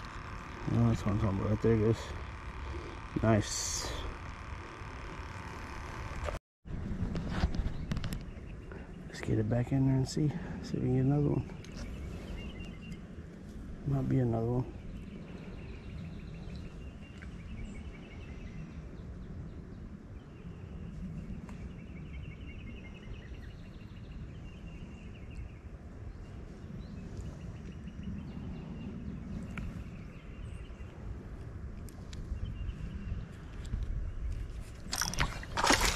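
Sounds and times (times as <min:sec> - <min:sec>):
wind rumble on microphone: 0:00.0 - 0:35.9.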